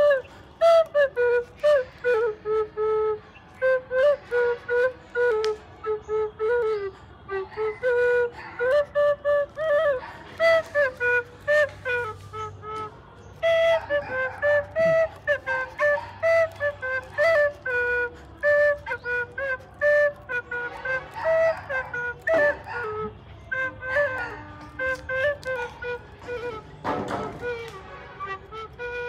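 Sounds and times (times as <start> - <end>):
bamboo flute melody: 0.0 - 29.0.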